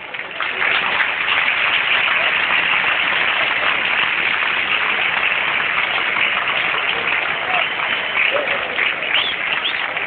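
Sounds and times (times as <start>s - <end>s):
crowd cheering and clapping: 0.0s - 10.0s.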